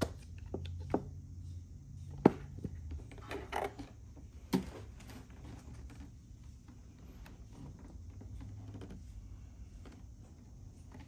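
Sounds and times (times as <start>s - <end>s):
rubbing and shuffling: 0.1s - 11.0s.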